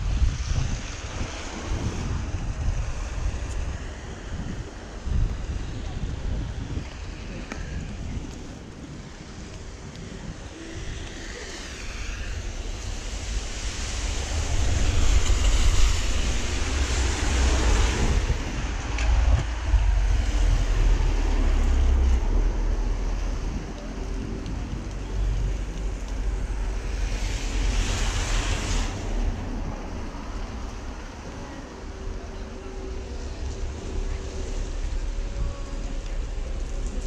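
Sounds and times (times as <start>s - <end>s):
rain hiss: 0.0s - 37.0s
wind buffeting microphone: 0.0s - 37.0s.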